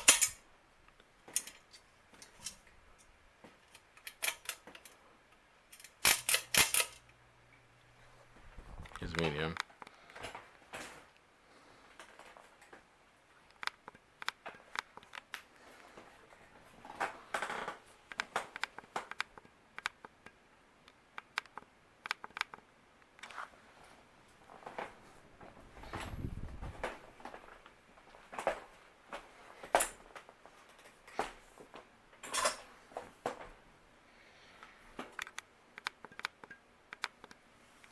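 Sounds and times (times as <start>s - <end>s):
ceiling fan clicking and ticking: 0.0s - 23.4s, 24.2s - 37.9s.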